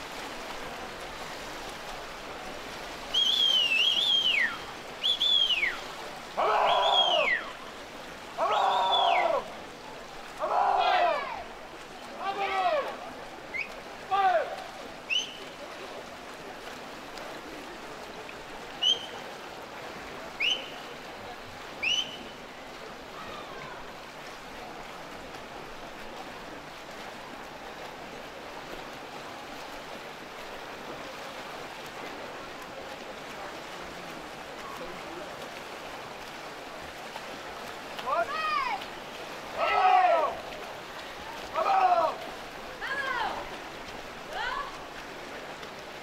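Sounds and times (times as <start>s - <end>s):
water splashing: 0.0s - 46.0s.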